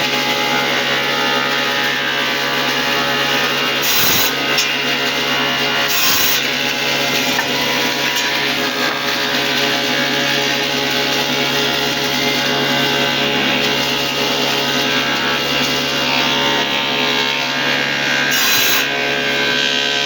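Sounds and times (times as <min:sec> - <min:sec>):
power tool cutting wood: 0:00.0 - 0:20.0.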